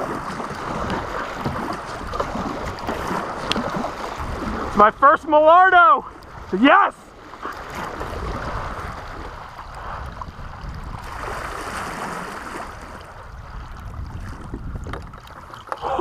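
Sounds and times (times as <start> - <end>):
wind rumble on microphone: 0.0 - 5.5, 6.1 - 6.6, 7.2 - 16.0
paddle strokes in water: 0.0 - 16.0
water washing along hull: 0.0 - 16.0.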